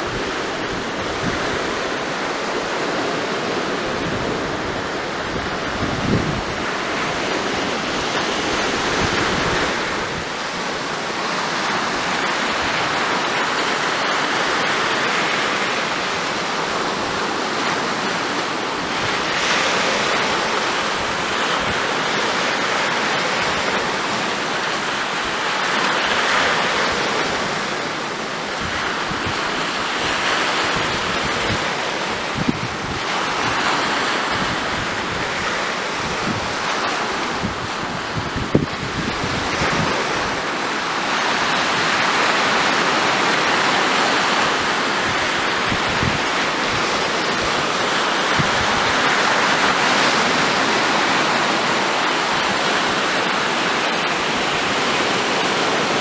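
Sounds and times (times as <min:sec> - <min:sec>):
wind buffeting microphone: 0:00.0 - 0:24.2, 0:26.6 - 0:56.0
waves breaking on stony beach: 0:00.0 - 0:56.0.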